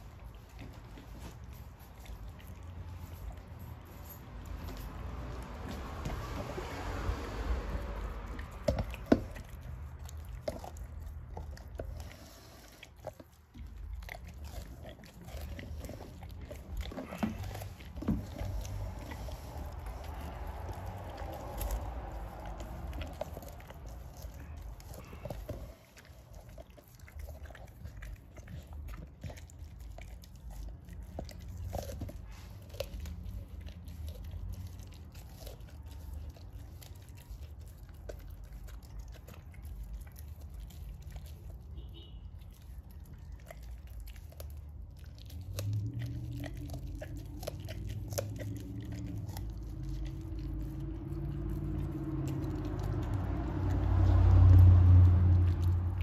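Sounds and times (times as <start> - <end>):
dog licking and chewing: 0.0 - 56.0.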